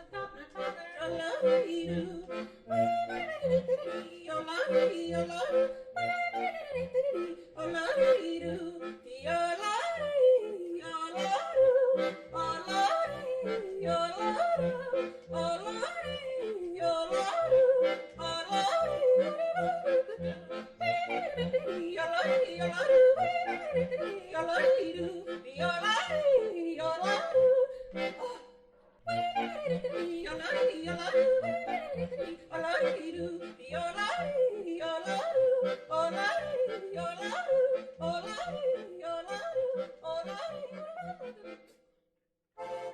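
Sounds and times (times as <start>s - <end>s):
yodeling song with instruments: 0.0s - 41.7s.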